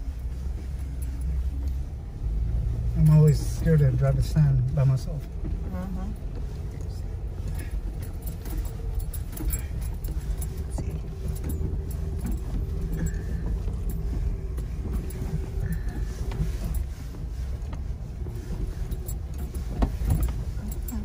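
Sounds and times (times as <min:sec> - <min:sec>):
body and interior rattles: 0:00.0 - 0:21.0
engine and road rumble: 0:00.0 - 0:21.0.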